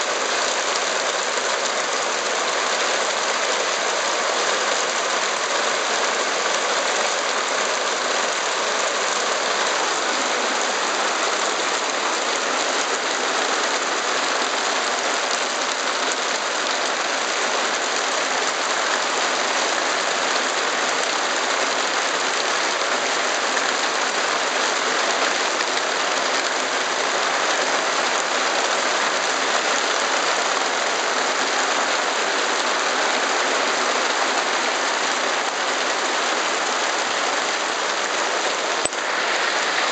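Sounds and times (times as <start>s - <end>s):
heavy hail and rain pelting: 0.0s - 39.9s.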